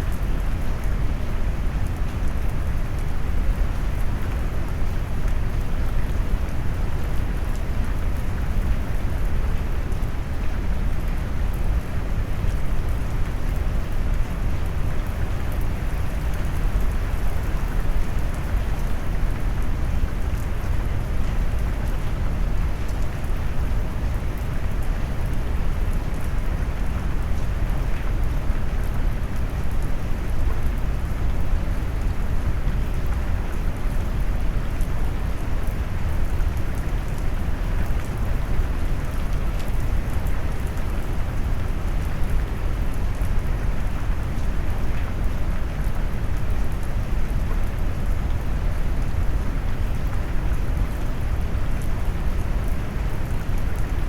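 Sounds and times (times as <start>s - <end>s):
faint raindrop ticks: 0.0s - 54.0s.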